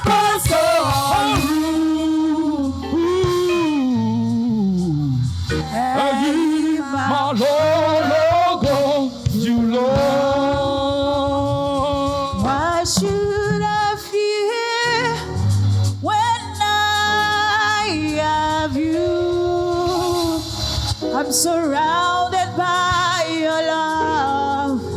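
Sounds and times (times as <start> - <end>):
gospel choir singing: 0.0 - 15.9, 16.8 - 24.9.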